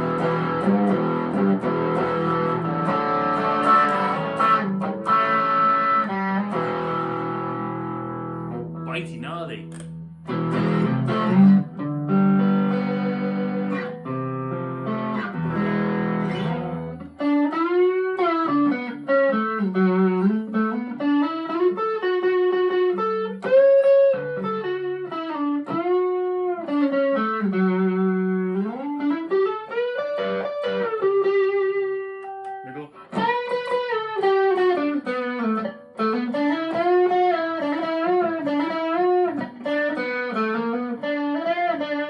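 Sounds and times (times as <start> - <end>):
overdriven electric guitar: 0.0 - 42.0.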